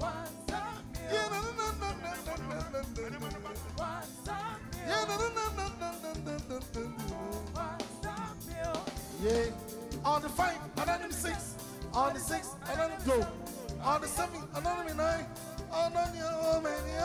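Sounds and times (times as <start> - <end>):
bass: 0.0 - 17.0
drum kit playing: 0.0 - 17.0
person singing: 0.0 - 17.0.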